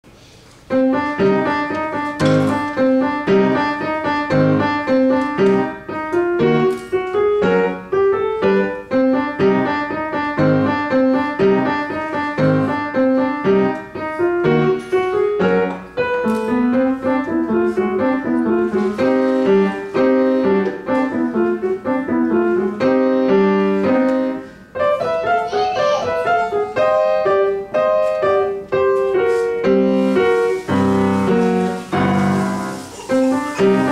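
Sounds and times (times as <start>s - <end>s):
upright piano playing: 0.6s - 33.9s.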